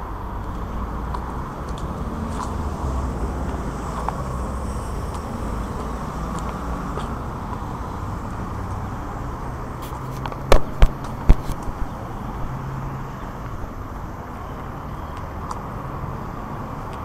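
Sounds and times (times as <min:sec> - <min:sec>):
passing cars on city street: 0:00.0 - 0:17.0.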